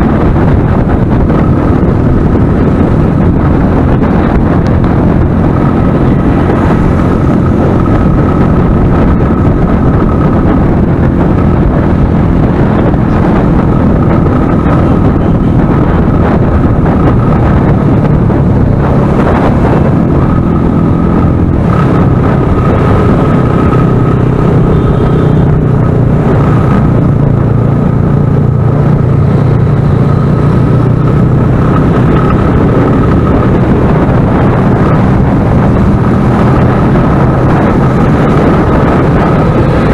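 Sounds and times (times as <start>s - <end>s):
motorcycle engine running: 0.0s - 39.9s
wind buffeting on microphone: 0.0s - 39.9s.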